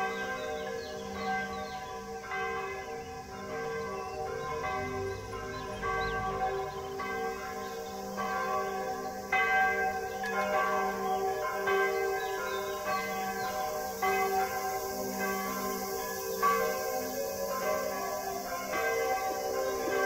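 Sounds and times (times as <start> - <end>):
bell-like chimes music: 0.0 - 20.0.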